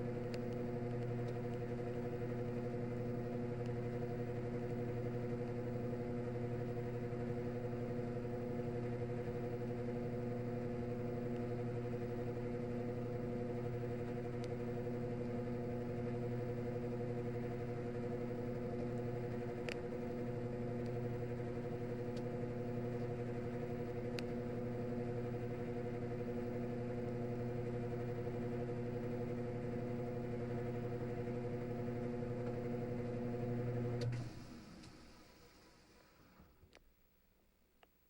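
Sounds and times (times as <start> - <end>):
drain pump humming: 0.0 - 35.1.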